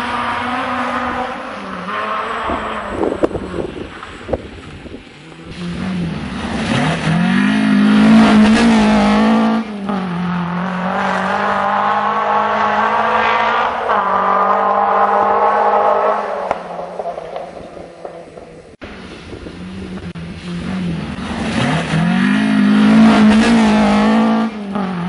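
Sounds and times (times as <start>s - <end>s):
rally car engine at full throttle: 0.0s - 25.0s.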